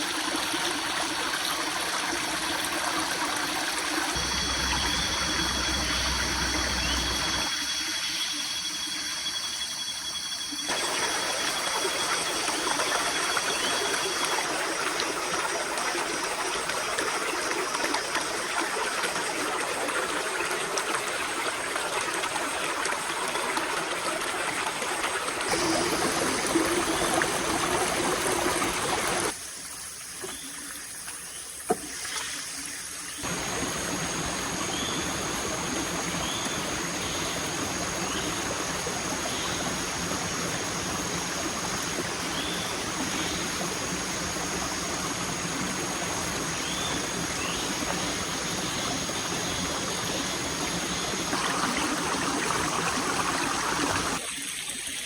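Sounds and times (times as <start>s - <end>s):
stream flowing: 0.0s - 7.6s, 10.7s - 29.4s, 31.7s - 55.0s.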